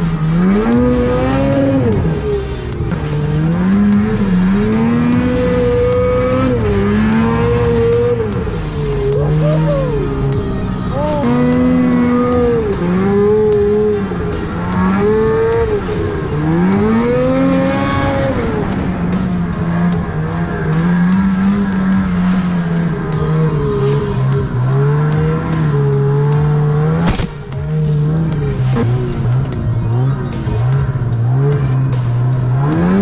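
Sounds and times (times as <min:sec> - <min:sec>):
snowmobile engine running hard: 0:00.0 - 0:33.0.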